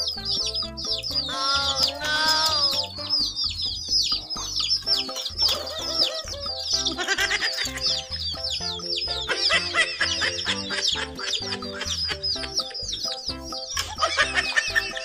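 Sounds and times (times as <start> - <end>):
baby chicks peeping: 0.0 - 15.0
background music with beat: 0.0 - 15.0.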